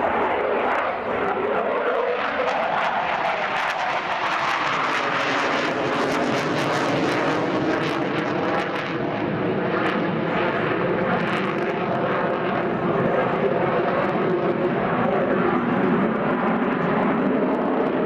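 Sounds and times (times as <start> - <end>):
jet engine noise with crackle: 0.0 - 18.0.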